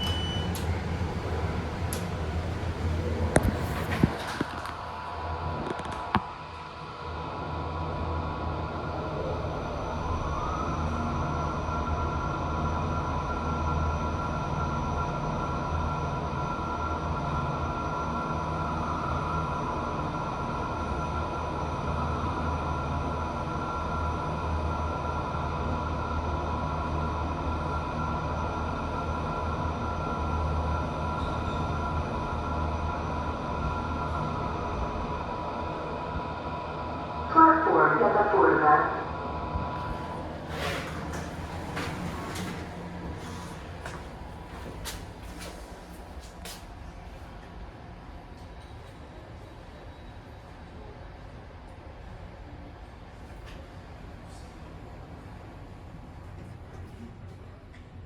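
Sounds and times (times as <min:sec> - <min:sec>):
elevator motor rumble and whine: 0:00.0 - 0:58.0.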